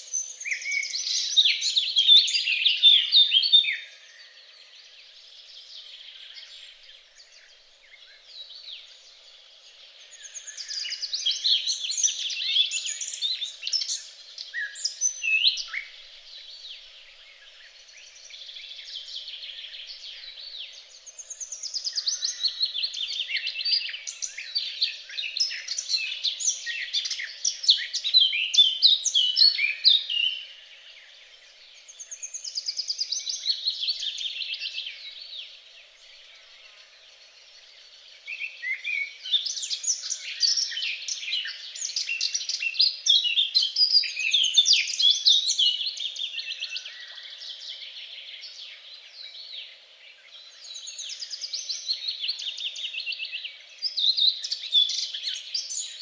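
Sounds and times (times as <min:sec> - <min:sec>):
songbird singing trills: 0:00.0 - 0:56.0.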